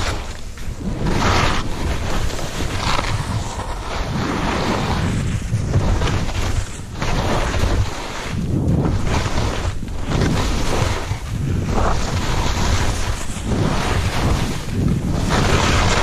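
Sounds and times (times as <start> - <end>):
skis scraping over snow: 0.0 - 16.0
wind rumble on microphone: 0.0 - 16.0.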